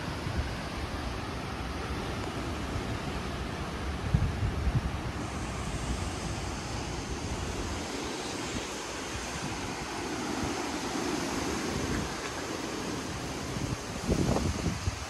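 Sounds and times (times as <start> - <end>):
wind rushing through trees: 0.0 - 15.0
wind buffeting microphone: 2.5 - 15.0.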